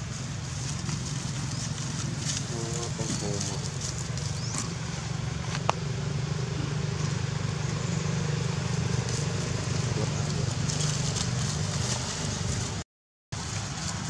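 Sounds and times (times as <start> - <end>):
low engine hum: 0.0 - 12.8, 13.4 - 14.0.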